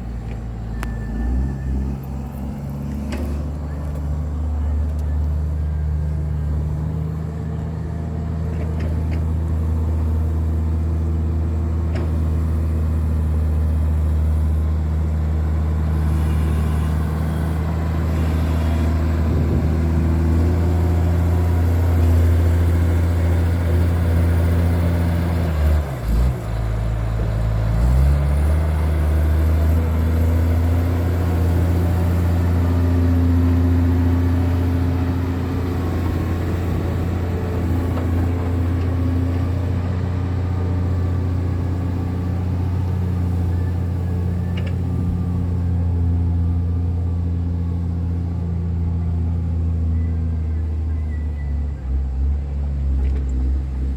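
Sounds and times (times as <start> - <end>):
diesel engine drone: 0.0 - 53.9.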